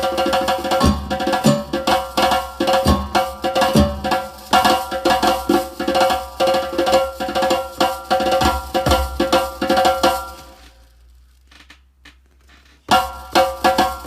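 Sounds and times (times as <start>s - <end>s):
fast hand-drum rhythm: 0.0s - 10.7s, 12.9s - 14.0s.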